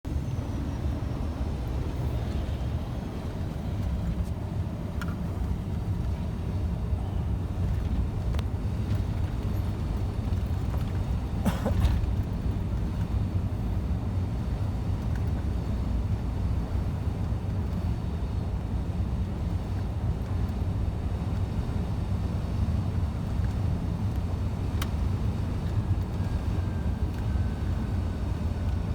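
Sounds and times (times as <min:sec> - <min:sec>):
truck driving on road: 0:00.0 - 0:28.9.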